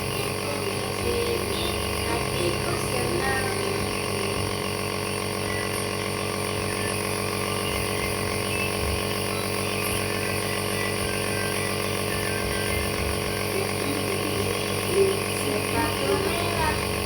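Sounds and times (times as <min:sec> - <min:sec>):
air compressor buzzing hum: 0:00.0 - 0:17.0.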